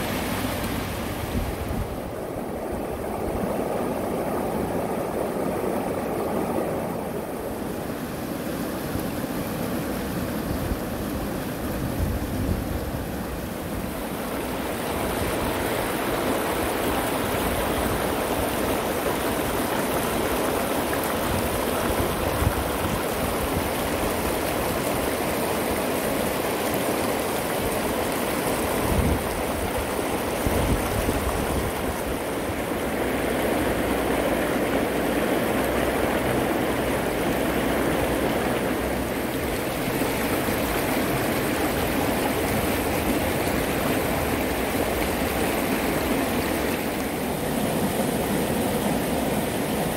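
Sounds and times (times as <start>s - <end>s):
stream rushing over stones: 0.0s - 49.9s.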